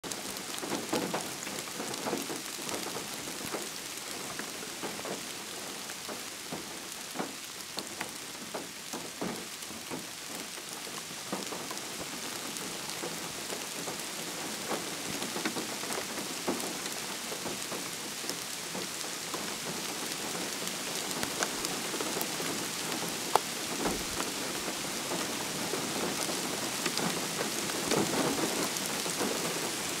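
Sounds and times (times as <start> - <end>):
steady rain: 0.0 - 30.0
raindrops ticking: 0.1 - 30.0.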